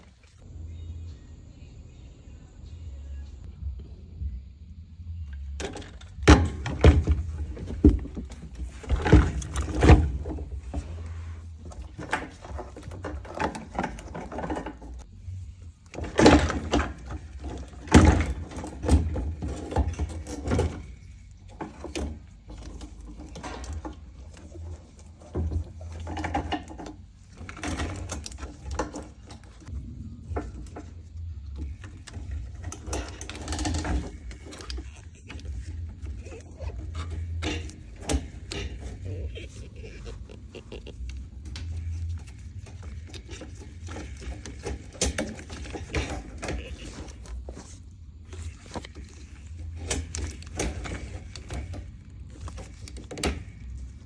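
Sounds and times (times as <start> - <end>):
steady low hum: 0.0 - 54.0
tools clattering: 5.6 - 15.1, 15.9 - 53.9.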